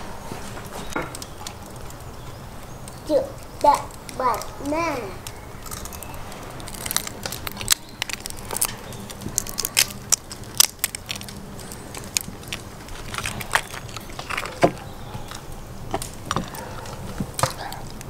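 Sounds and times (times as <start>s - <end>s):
crayfish shells cracking: 0.9s - 18.0s.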